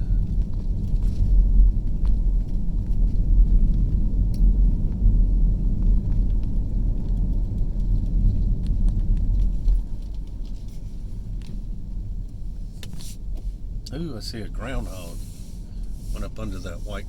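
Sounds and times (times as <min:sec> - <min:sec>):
car engine and tyre noise: 0:00.0 - 0:17.0.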